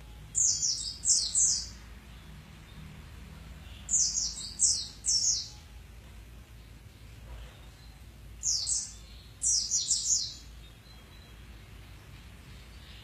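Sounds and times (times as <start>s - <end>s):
bird chirping: 0.0s - 5.8s, 6.6s - 13.0s.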